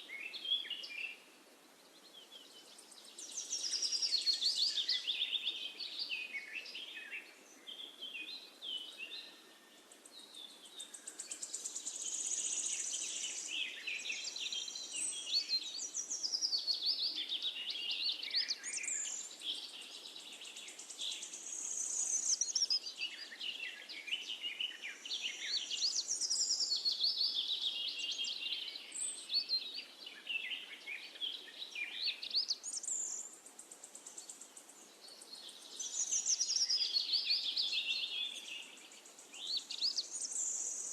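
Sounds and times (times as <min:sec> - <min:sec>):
faint steady hiss: 0:00.0 - 0:40.9
small birds chirping and trilling: 0:00.0 - 0:40.9.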